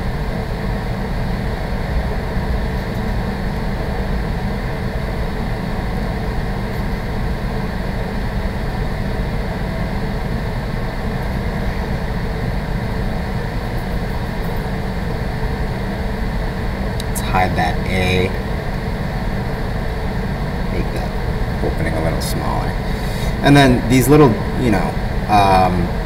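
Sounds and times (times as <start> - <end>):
low hum with hiss: 0.0 - 26.0.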